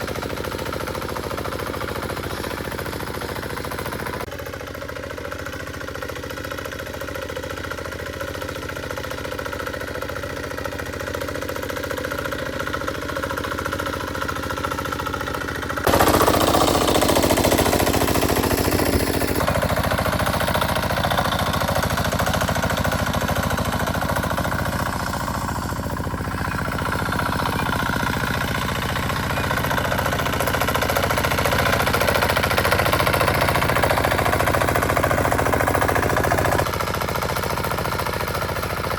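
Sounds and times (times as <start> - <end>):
small engine knocking: 0.0 - 38.9.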